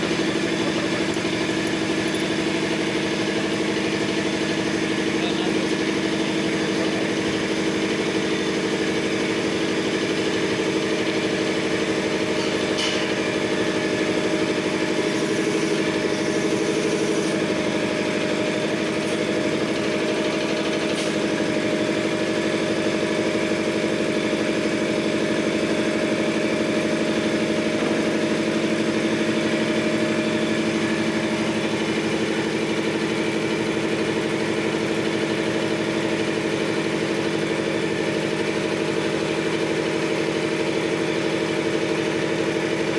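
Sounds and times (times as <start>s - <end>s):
air compressor motor humming: 0.0s - 42.9s.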